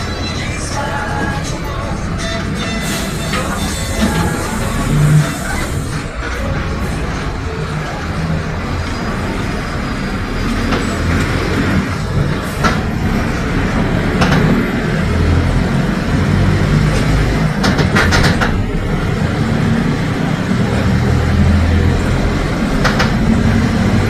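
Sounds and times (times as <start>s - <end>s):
bus diesel engine droning: 0.0s - 24.0s.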